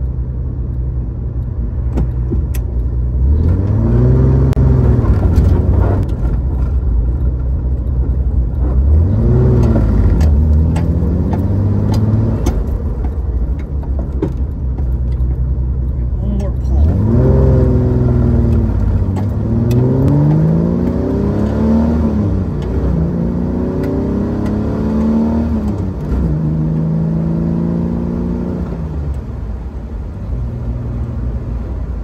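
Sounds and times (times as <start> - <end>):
road noise: 0.0 - 32.0
car engine revving: 2.0 - 32.0.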